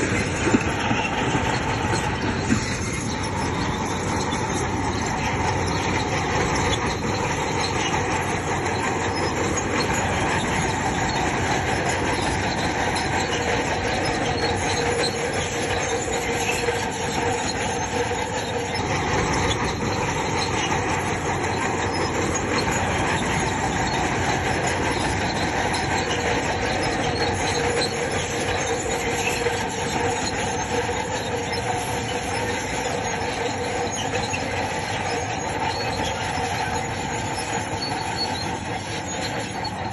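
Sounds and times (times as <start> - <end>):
diesel engine running: 0.0 - 39.9
steel tracks squealing and clanking: 0.0 - 39.9.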